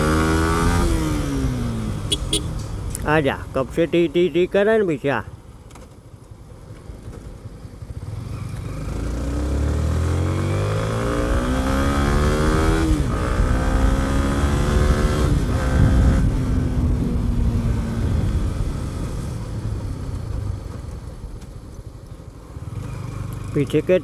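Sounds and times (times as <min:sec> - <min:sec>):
motorcycle engine accelerating: 0:00.0 - 0:03.0, 0:05.7 - 0:23.9.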